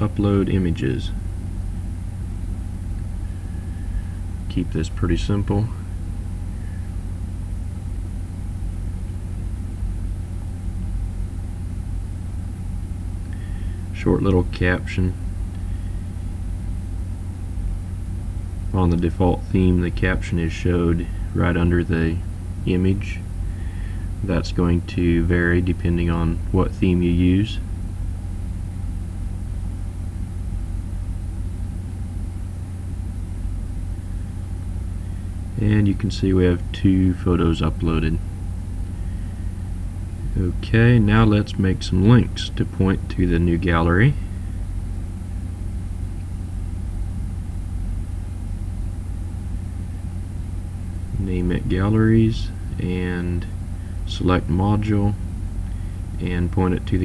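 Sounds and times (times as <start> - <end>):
low electrical hum with hiss: 0.0 - 57.0.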